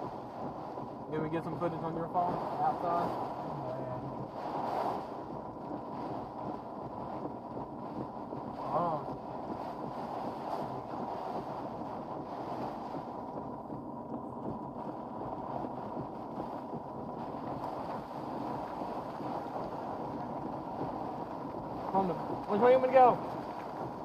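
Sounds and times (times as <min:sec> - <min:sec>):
hurricane wind rushing: 0:00.0 - 0:24.0.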